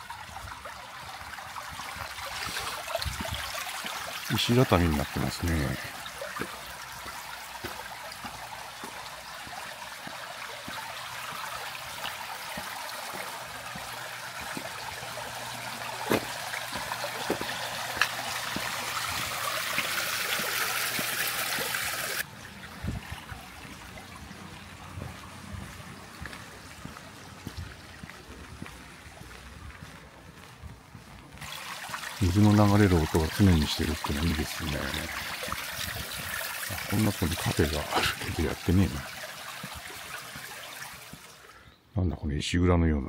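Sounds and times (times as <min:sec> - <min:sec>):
water running in stone channel: 0:00.0 - 0:41.7.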